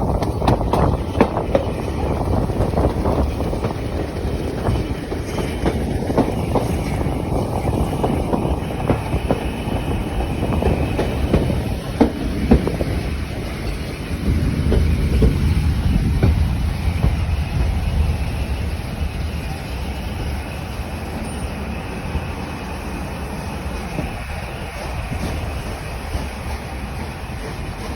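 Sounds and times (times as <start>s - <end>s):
wheels clicking over rail joints: 0.0s - 18.7s, 23.9s - 27.9s
train rumbling along track: 0.0s - 27.9s.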